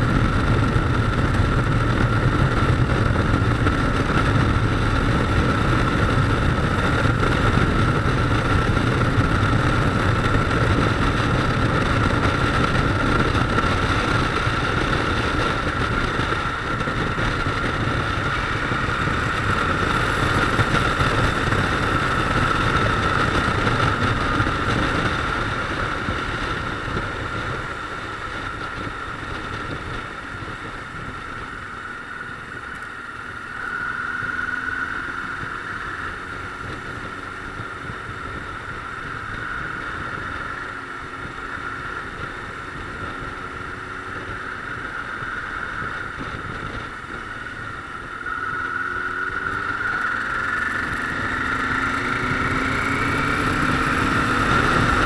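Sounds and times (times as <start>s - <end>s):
motorcycle engine running: 0.0s - 55.0s
riding noise rushing: 0.0s - 55.0s.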